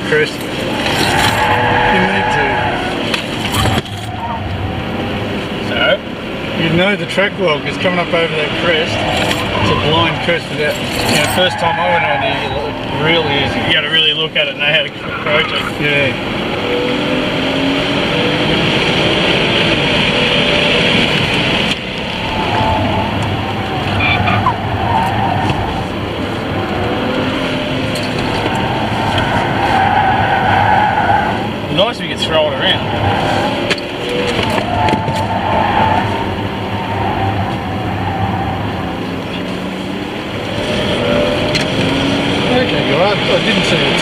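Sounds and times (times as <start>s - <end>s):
car engine: 0.0s - 44.0s.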